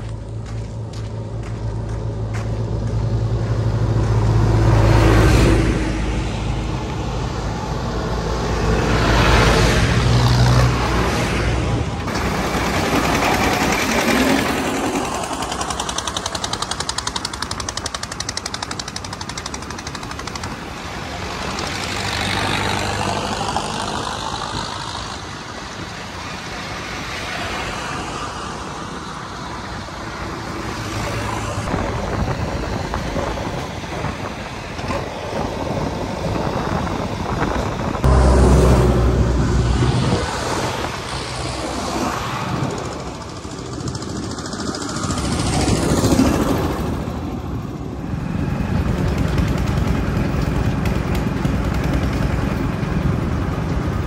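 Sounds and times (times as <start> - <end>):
diesel tractor engines running: 0.0 - 54.0.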